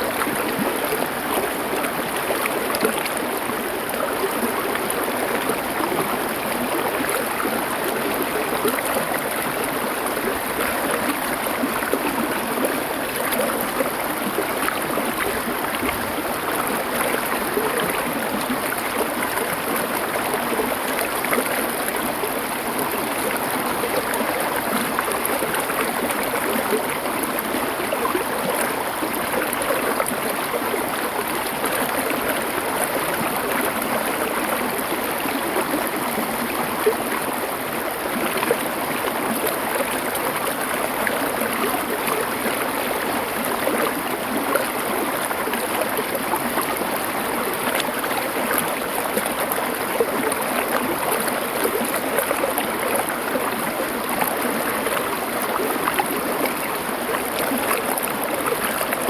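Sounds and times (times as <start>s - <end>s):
river water over stones: 0.0s - 59.0s.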